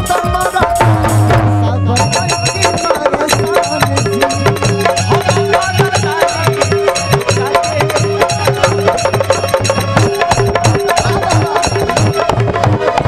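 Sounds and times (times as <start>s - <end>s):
fast drum beat: 0.0s - 13.0s
repeating melodic line: 2.0s - 13.0s.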